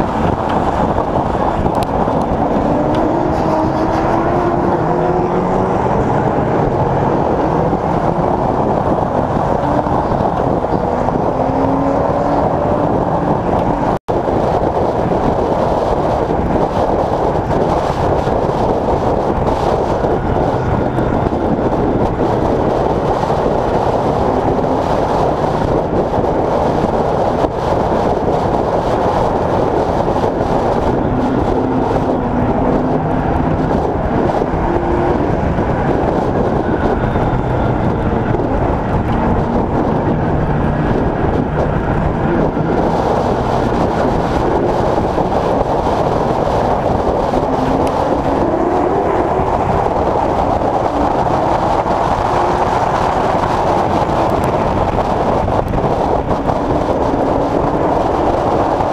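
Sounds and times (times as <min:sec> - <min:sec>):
race car engine: 0:00.0 - 0:58.9
road noise inside car: 0:00.0 - 0:58.9.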